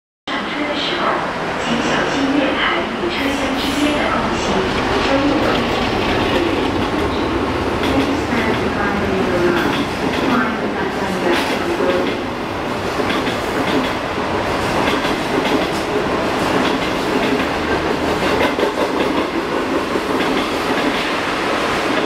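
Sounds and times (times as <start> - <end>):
train coaches rumbling past: 0.3 - 22.0.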